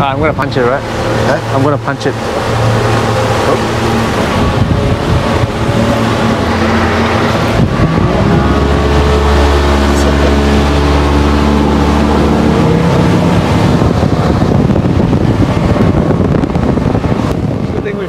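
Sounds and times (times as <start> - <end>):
motorboat engine running: 0.0 - 18.0
rush of wind and water: 0.0 - 18.0.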